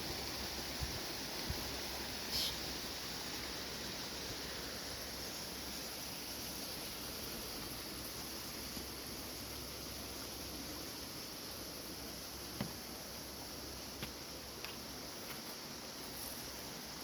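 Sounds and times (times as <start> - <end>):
hiss of moving air: 0.0 - 17.0.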